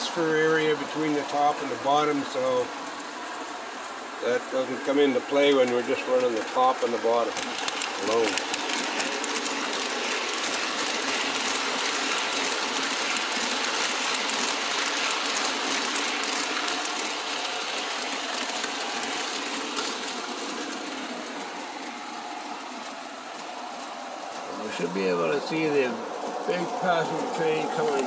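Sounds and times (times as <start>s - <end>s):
model trains whirring and rattling: 0.0s - 28.0s.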